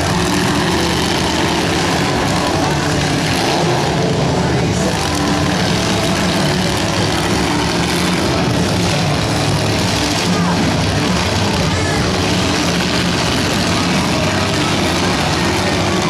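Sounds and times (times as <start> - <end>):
car engines running hard: 0.0 - 16.0.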